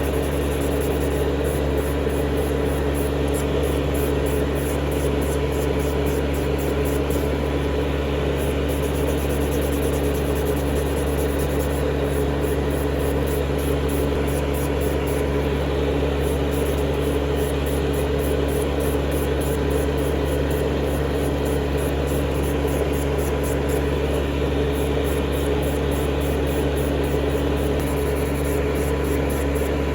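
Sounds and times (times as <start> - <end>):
small electric motor humming: 0.0 - 29.9.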